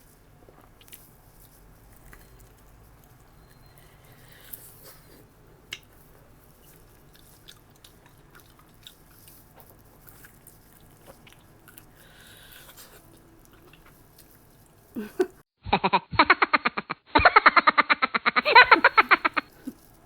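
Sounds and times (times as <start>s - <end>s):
person chewing food: 0.0s - 15.4s, 18.5s - 20.0s.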